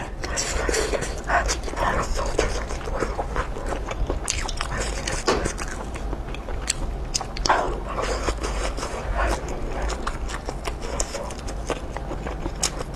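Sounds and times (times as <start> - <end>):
person chewing sausage: 0.0 - 12.9.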